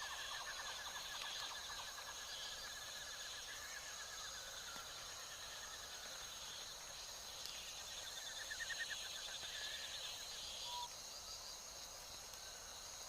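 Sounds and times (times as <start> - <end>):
high insect drone: 0.0 - 13.0
pulsing insect chirr: 0.0 - 13.0.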